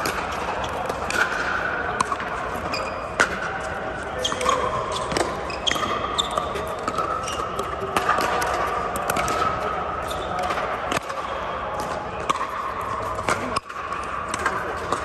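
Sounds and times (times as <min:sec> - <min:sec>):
balls bouncing on court: 0:00.0 - 0:15.0
murmur of voices: 0:00.0 - 0:15.0.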